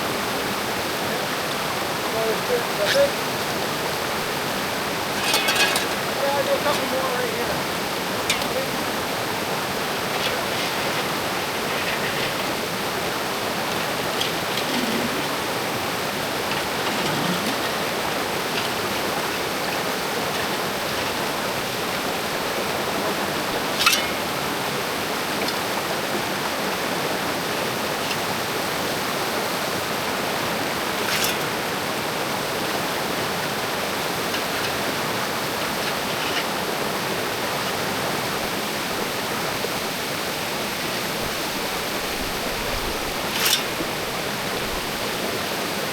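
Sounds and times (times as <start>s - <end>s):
creek water rushing: 0.0s - 45.9s.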